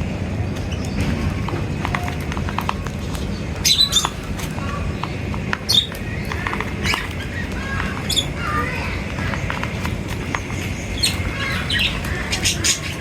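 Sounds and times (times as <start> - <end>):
birds chirping and squawking: 0.0 - 13.0
low background noise: 0.0 - 13.0.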